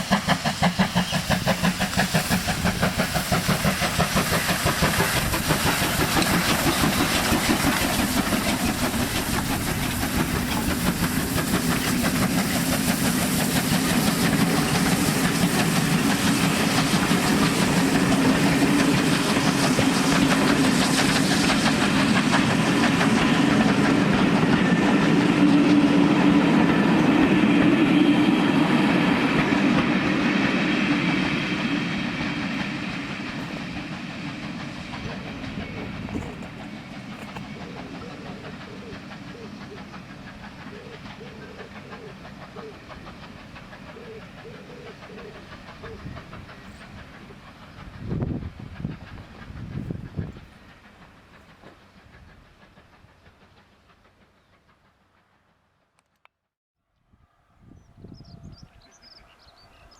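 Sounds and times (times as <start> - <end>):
train wheels clattering: 0.0 - 56.0.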